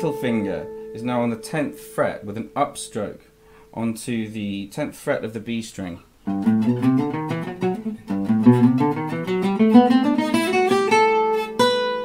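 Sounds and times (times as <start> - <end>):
guitar picking single notes: 0.0 - 4.0, 6.2 - 12.0.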